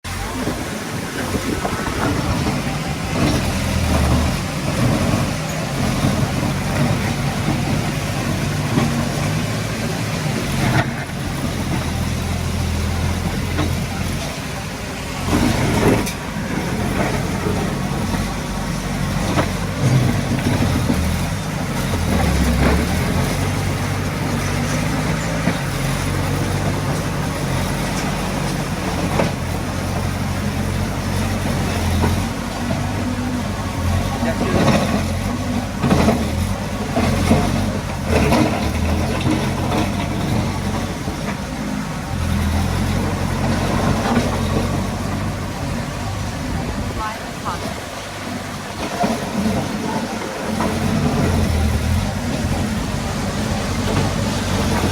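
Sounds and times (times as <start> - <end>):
diesel earthmoving machinery working: 0.0 - 54.9.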